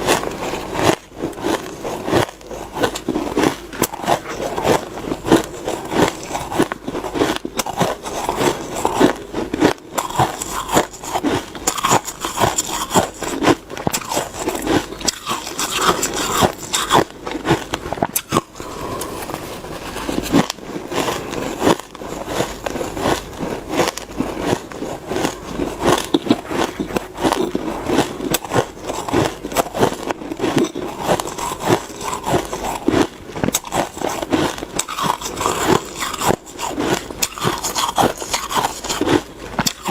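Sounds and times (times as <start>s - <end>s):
chewing shaved ice crunching: 0.0s - 39.9s.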